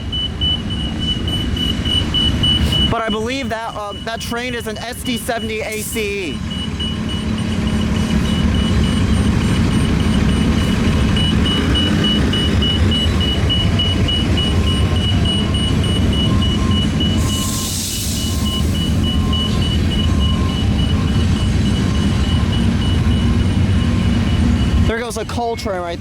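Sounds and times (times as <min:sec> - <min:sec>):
crossing bell dinging: 0:00.0 - 0:26.0
train wheels rumbling on rails: 0:00.0 - 0:26.0.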